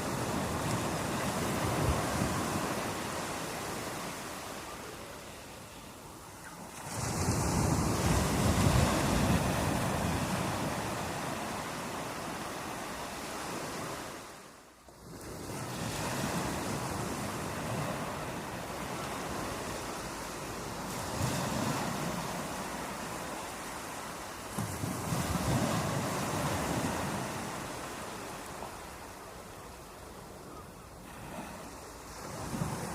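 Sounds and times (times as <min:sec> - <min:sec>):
sea waves breaking on shore: 0:00.0 - 0:32.9.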